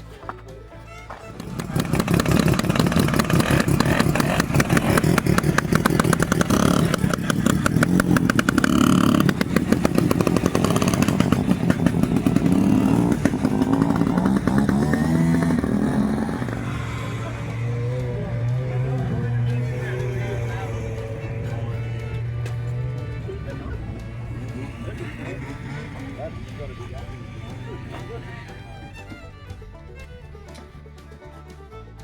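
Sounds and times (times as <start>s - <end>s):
snowmobile engine revving: 0.0s - 32.0s.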